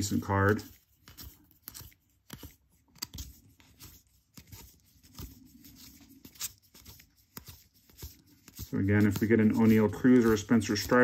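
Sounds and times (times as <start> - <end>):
cards flipping and rustling: 0.0 - 11.0.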